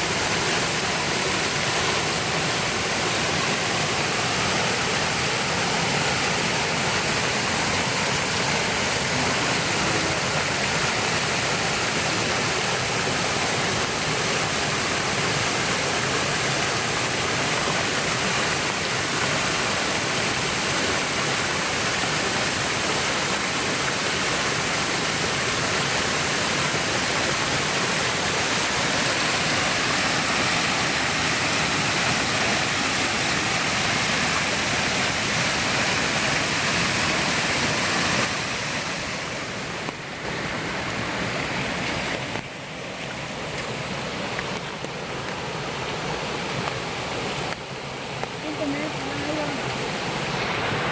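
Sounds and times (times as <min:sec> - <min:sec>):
waterfall rushing over rock: 0:00.0 - 0:50.9.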